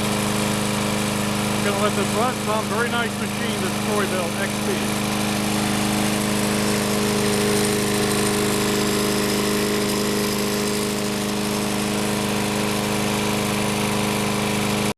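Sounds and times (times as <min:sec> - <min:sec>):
lawn mower engine running: 0:00.0 - 0:14.9.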